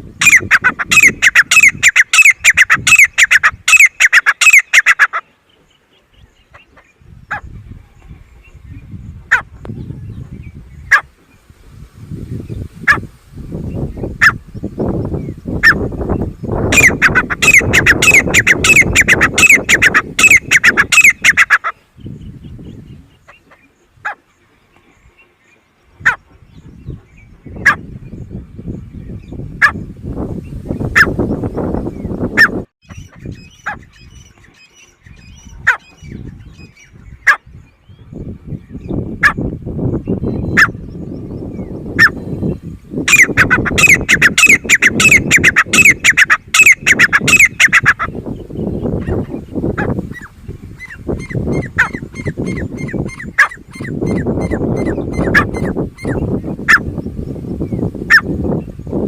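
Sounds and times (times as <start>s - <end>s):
francolins calling: 0.2s - 11.1s, 12.4s - 24.5s, 30.8s - 59.0s.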